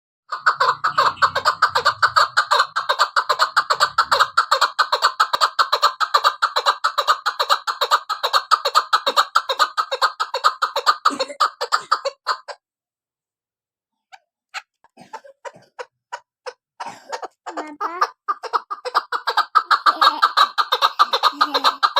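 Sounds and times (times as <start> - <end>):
partridge clucking calls: 0.3 - 12.6, 14.1 - 21.9.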